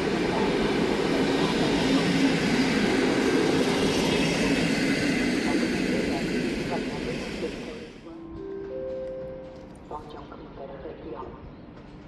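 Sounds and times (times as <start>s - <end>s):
train wheels rolling on track: 0.0s - 10.0s.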